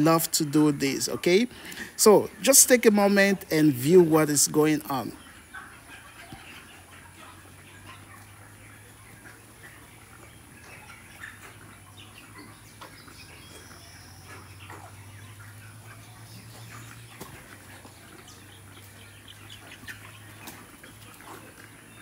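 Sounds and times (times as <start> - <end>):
chickens peeping and clucking: 0.0 - 22.0.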